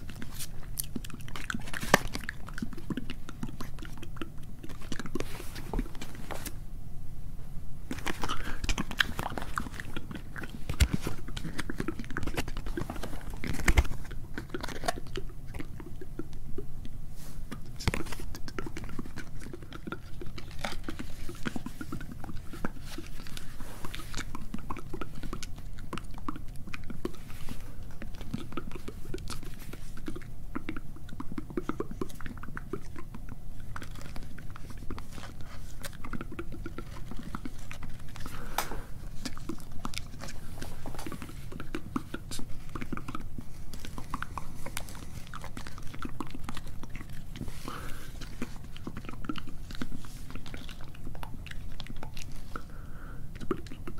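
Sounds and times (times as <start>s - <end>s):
whispering mouth clicks: 8.1s - 52.6s.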